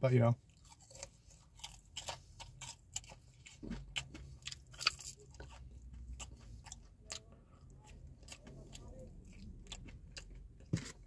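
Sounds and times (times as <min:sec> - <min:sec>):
person chewing crunchy food: 0:00.4 - 0:11.0.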